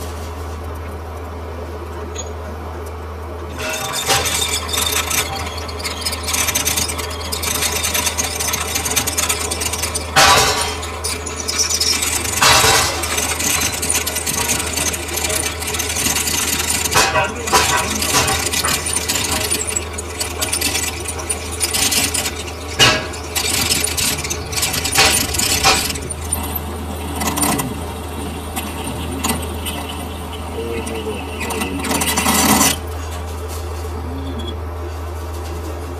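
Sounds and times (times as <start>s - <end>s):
low machine hum: 0.0s - 35.9s
metal scraping and clinking: 3.5s - 33.9s.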